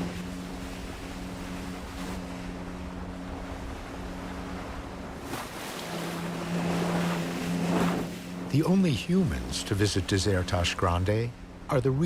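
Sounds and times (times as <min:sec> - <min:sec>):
sea surf: 0:00.0 - 0:12.0
steady low hum: 0:00.0 - 0:12.0.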